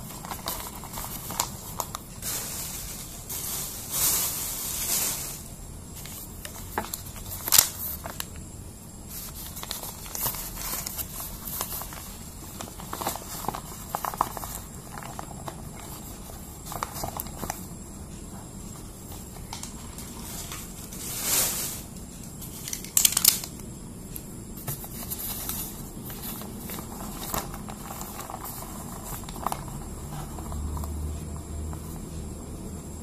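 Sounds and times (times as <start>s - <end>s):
paper wrapping rustling and crinkling: 0.0s - 8.4s, 9.1s - 17.7s, 18.8s - 23.5s, 24.6s - 31.2s.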